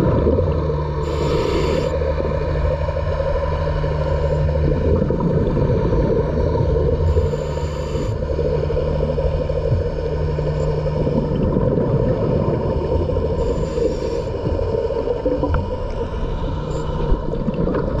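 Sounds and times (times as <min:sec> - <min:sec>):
underwater low drone: 0:00.0 - 0:18.0.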